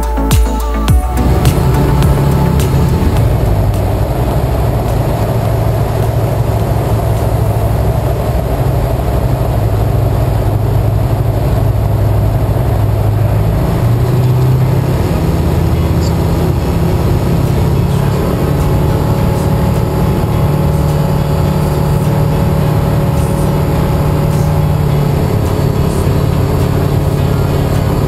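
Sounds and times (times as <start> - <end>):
aircraft engine and propeller droning: 1.2 - 28.0.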